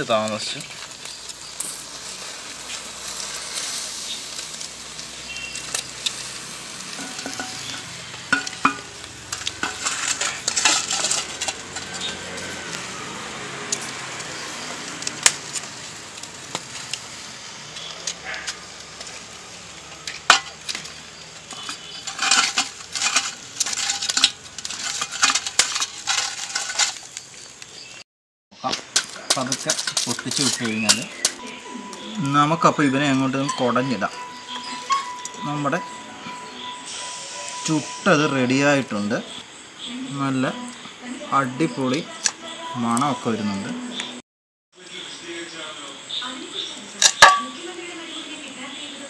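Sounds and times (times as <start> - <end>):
embers crackling and hissing: 0.0 - 28.0, 28.6 - 44.2, 44.8 - 49.0
rattling and scraping in coals: 0.0 - 28.0, 28.6 - 39.6, 46.6 - 48.9.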